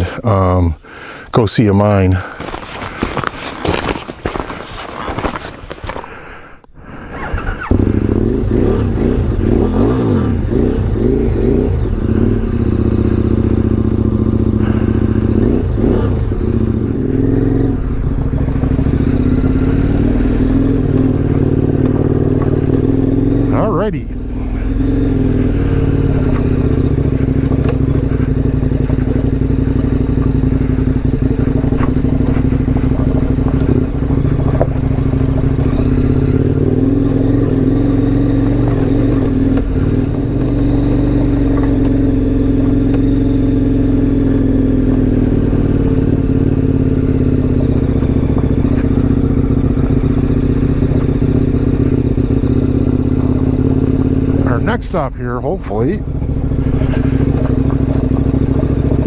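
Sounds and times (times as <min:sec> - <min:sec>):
motorcycle engine running: 0:07.2 - 0:59.0.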